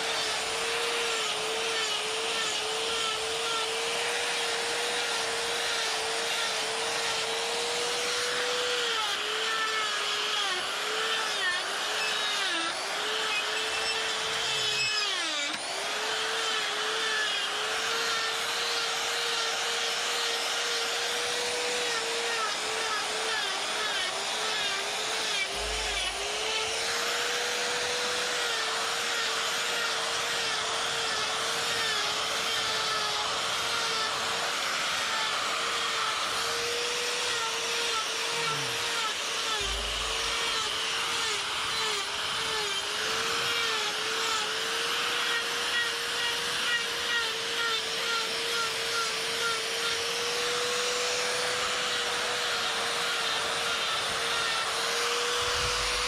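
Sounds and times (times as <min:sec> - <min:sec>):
die grinder carving wood: 0:00.0 - 0:56.0.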